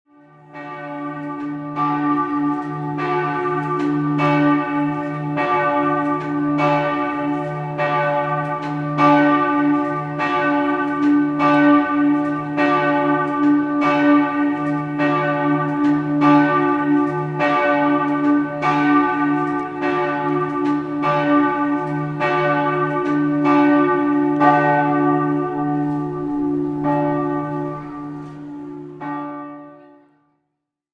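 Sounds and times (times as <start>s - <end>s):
church bells ringing: 0.1s - 30.2s.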